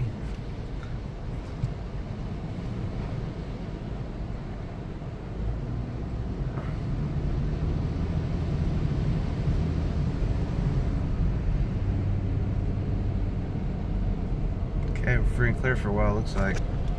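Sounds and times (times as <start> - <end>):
vehicle engine and road rumble: 0.0 - 16.9.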